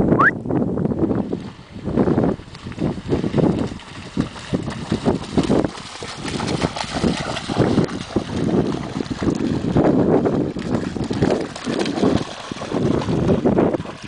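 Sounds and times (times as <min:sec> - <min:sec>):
wind buffeting microphone: 0:00.0 - 0:14.0
dog splashing through water: 0:01.4 - 0:14.0.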